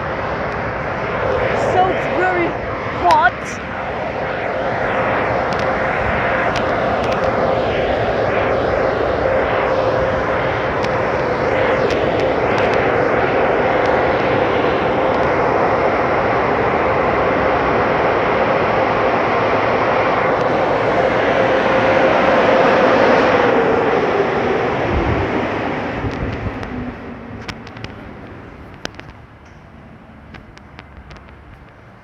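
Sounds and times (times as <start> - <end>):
constant hum: 0.0 - 32.0
dryer blowers rushing air: 0.0 - 32.0.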